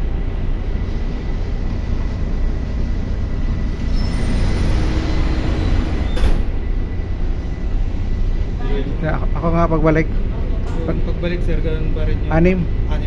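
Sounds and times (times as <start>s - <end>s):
diesel generator engine running: 0.0s - 13.0s.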